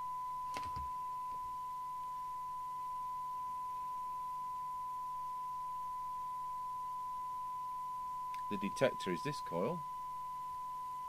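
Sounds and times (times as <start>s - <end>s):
faint noise: 0.0s - 11.0s
steady pure test tone: 0.0s - 11.0s.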